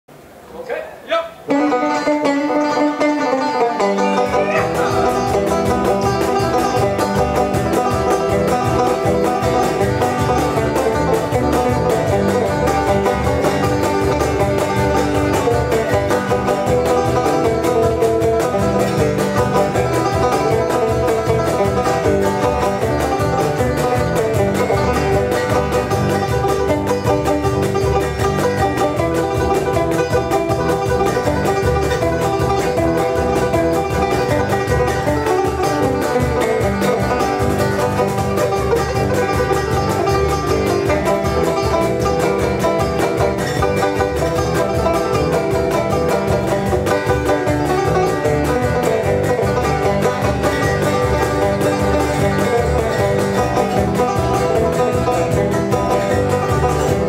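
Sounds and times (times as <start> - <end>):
banjo picking: 1.4 - 57.0
cajon beat: 1.4 - 57.0
acoustic guitar: 1.5 - 57.0
electric bass guitar: 1.5 - 57.0.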